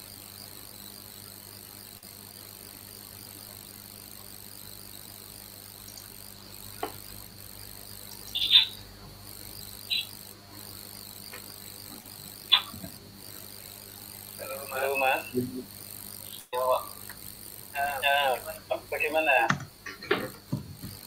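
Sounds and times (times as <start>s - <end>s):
crickets chirring: 0.0s - 21.0s
low electrical hum: 0.0s - 21.0s.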